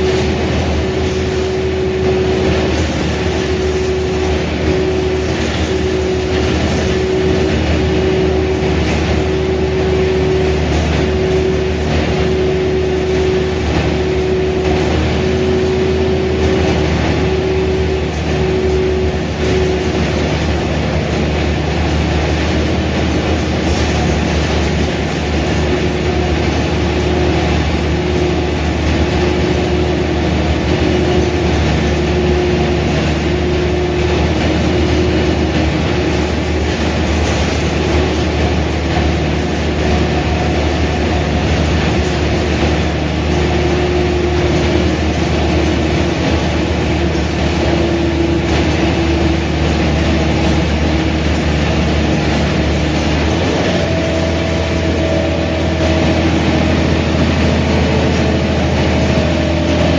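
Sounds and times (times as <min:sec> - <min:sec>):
bus diesel engine drone: 0:00.0 - 0:59.9
faint drivetrain whine: 0:00.0 - 0:59.9.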